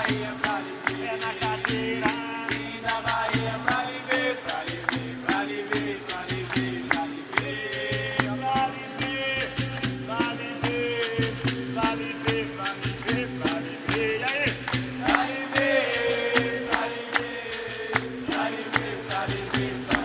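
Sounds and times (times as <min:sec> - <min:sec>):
people singing: 0:00.0 - 0:20.0
sharp rattling percussion: 0:00.0 - 0:20.0.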